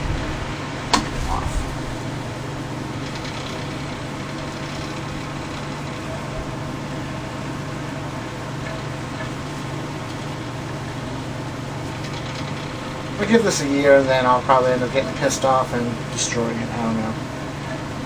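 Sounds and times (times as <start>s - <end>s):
fan motor hum: 0.0s - 18.0s
rush of air from fan: 0.0s - 18.0s.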